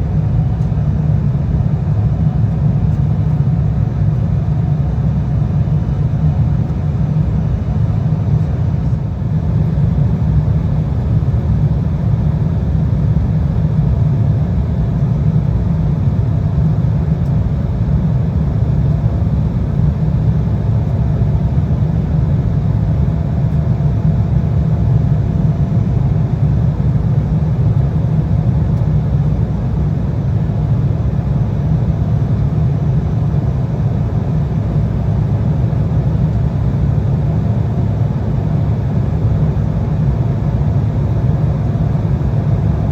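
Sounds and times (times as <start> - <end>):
faint steady hum: 0.0 - 42.9
jet cabin rumble: 0.0 - 42.9.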